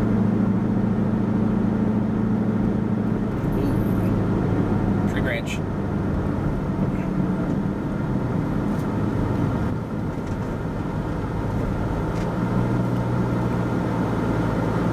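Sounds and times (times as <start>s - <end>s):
car engine hum: 0.0s - 14.9s
road noise: 0.0s - 14.9s.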